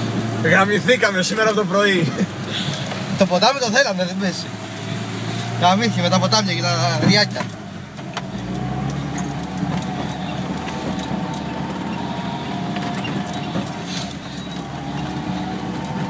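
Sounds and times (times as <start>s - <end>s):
knocks and rattles over bumps: 0.0s - 12.0s, 12.6s - 16.0s
vehicle drivetrain running: 0.0s - 16.0s.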